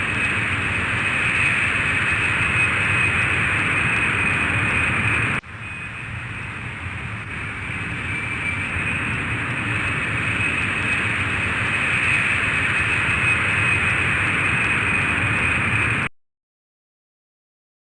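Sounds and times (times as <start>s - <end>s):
jet engines roaring with turbine whine: 0.0s - 16.1s.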